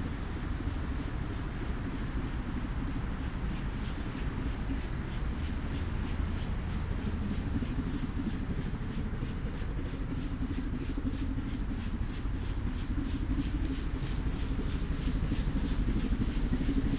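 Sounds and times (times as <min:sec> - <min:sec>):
steam locomotive chuffing: 0:00.0 - 0:16.9.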